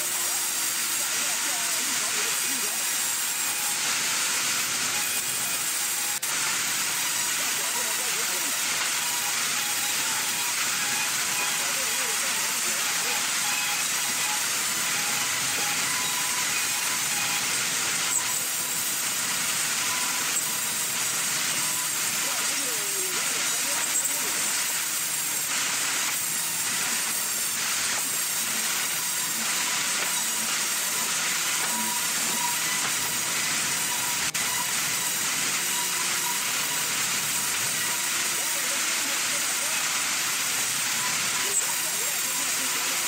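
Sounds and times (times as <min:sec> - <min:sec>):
band saw cutting wood: 0:00.0 - 0:43.0.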